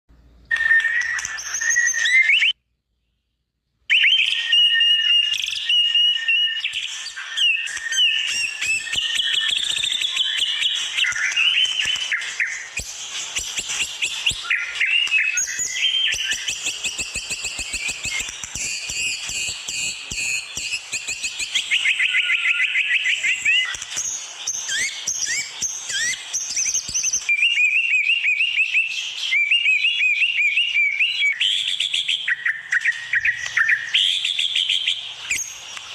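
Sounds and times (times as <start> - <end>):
bird singing whistles and trills: 0.2 - 35.9.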